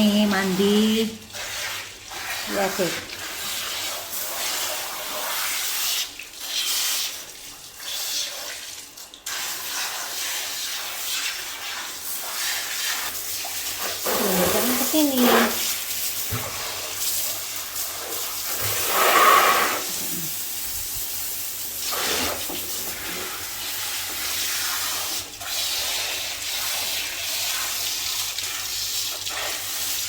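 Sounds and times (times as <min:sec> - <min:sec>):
water spraying: 0:00.0 - 0:30.0.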